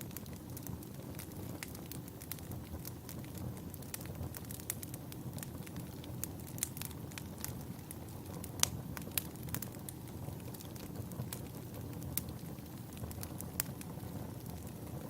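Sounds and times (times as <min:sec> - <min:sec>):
fire crackling and popping: 0:00.0 - 0:15.0
rumble of fire flames: 0:00.0 - 0:15.0.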